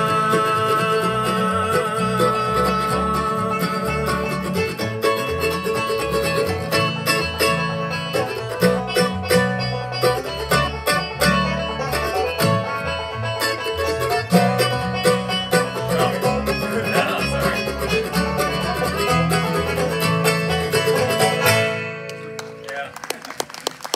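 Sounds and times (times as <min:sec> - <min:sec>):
banjo picking: 0:00.0 - 0:22.6
bluegrass band playing: 0:00.0 - 0:23.9.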